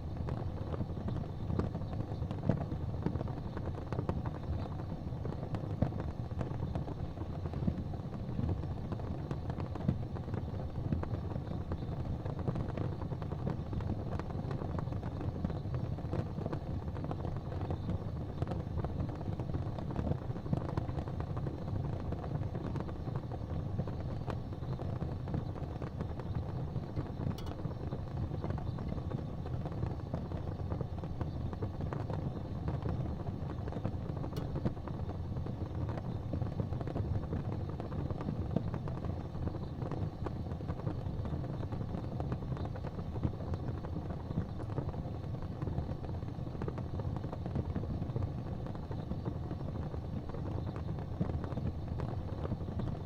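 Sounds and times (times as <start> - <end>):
faint fire crackles: 0.0 - 53.0
fire rumbling: 0.0 - 53.0.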